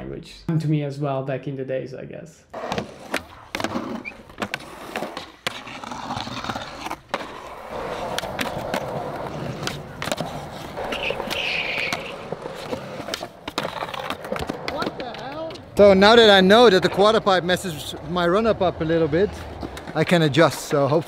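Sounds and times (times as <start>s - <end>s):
skateboard scrape: 2.5s - 21.0s
skateboard wheels rolling on concrete: 2.5s - 21.0s
skateboard clacking on ground: 2.6s - 18.6s, 19.3s - 21.0s.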